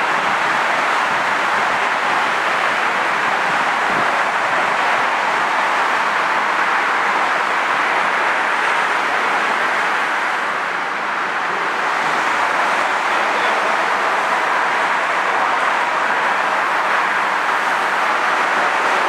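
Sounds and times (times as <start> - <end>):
train rushing hum: 0.0 - 19.0.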